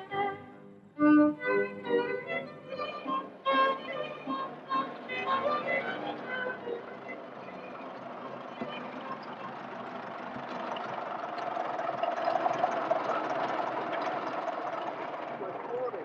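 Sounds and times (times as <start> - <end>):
old car engine running: 1.4 - 16.0.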